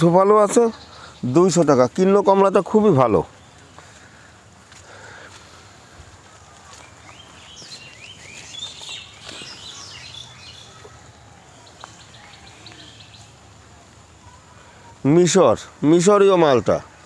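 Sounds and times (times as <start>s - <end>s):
faint outdoor background: 0.0s - 17.0s
small birds chirping: 0.0s - 17.0s.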